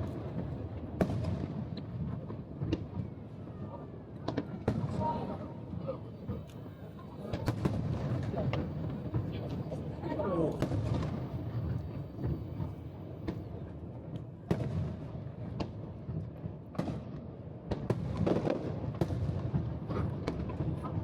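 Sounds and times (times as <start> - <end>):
fireworks bursting bangs: 0.0 - 3.2, 4.2 - 6.4, 7.1 - 21.0.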